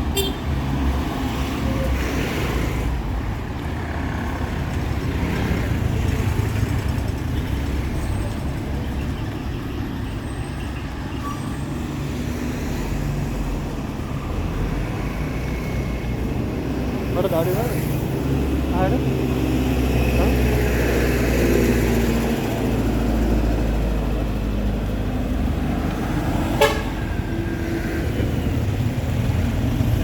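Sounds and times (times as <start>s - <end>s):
vehicle engines rumbling: 0.0s - 30.0s.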